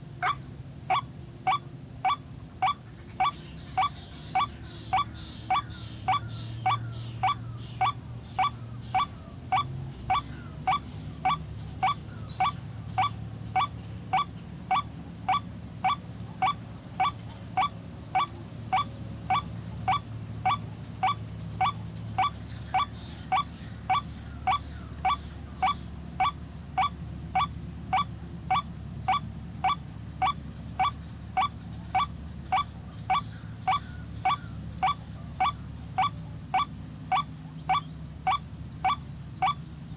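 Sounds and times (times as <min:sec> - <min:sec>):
bird honking call: 0:00.0 - 0:39.9
low steady hum: 0:00.0 - 0:39.9.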